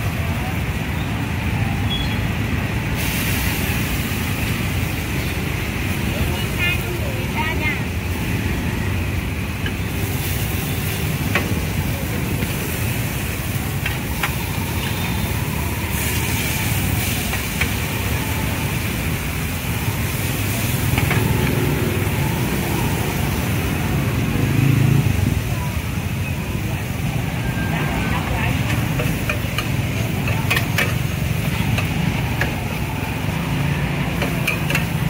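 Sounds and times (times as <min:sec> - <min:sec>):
noodles frying on a metal pan: 0:00.0 - 0:35.0
street traffic rumble: 0:00.0 - 0:35.0.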